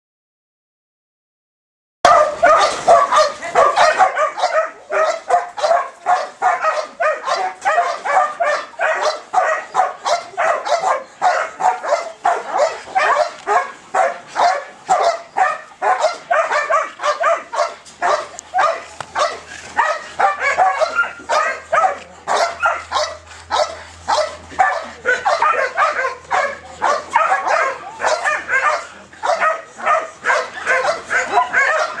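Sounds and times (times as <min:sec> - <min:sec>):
dog barking rapidly: 0:02.1 - 0:32.0.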